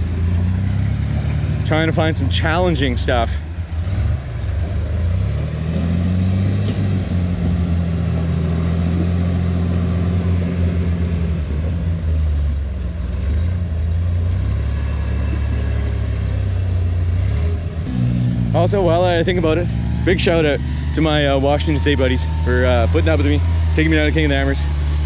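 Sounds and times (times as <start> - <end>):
engine running at low revs: 0.0 - 25.0.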